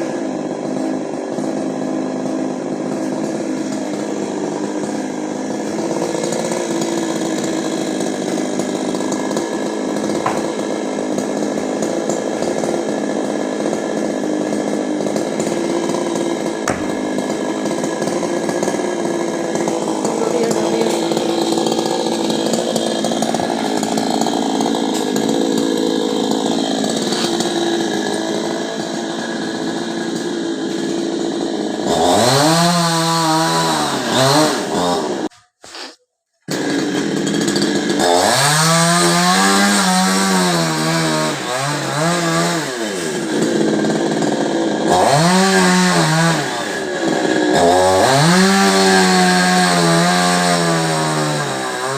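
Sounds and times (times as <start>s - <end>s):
chainsaw engine running: 0.0s - 51.9s.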